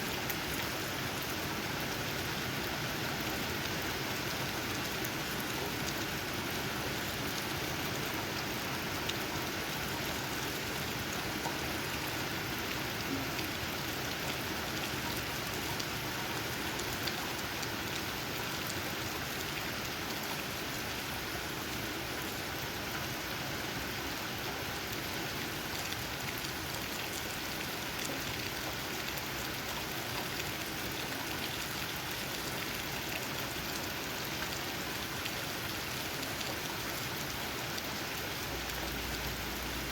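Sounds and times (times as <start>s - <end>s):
rain tapping on leaves: 0.0s - 39.9s.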